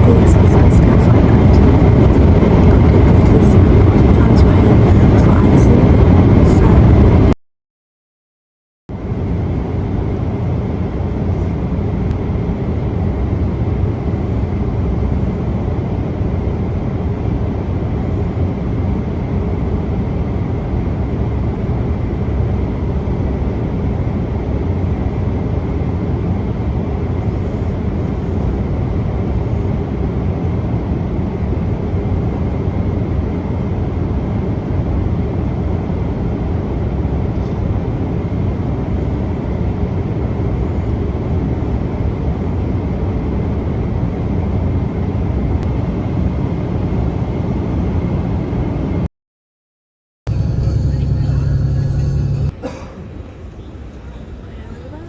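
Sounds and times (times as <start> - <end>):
jet engines and airflow rumble: 0.0 - 7.4, 8.9 - 49.1, 50.3 - 55.0.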